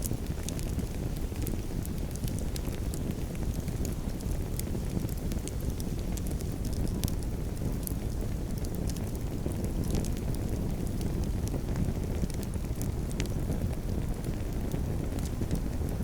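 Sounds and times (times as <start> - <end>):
campfire crackling: 0.0 - 16.0
wind: 0.0 - 16.0.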